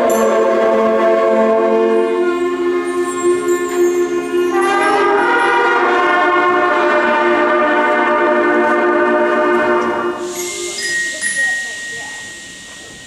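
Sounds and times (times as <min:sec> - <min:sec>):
concert band holding chords: 0:00.0 - 0:13.0.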